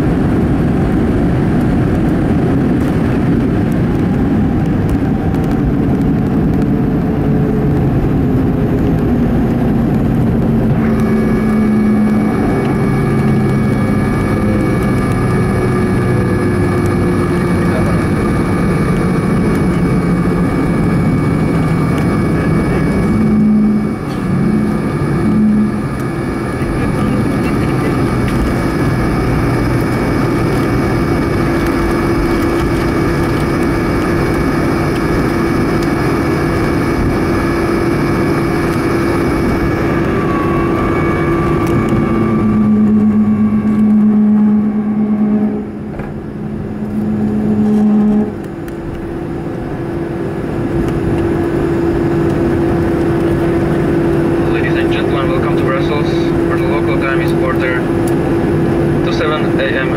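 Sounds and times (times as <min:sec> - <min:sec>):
airplane engines humming low: 0:00.0 - 0:59.9
steady whine: 0:00.0 - 0:59.9.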